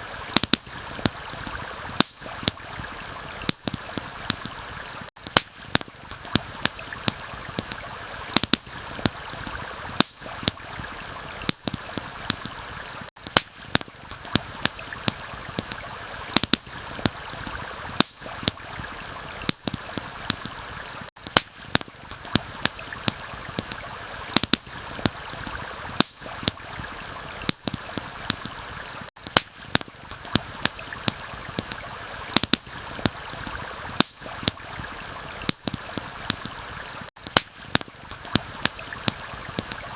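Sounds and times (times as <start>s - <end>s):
campfire crackling and popping: 0.0s - 39.9s
stream water flowing: 0.0s - 39.9s.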